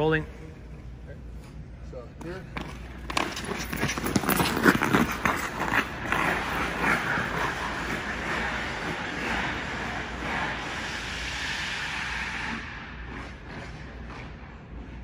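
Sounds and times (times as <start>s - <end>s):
skates scraping and knocking on ice: 2.4s - 15.0s.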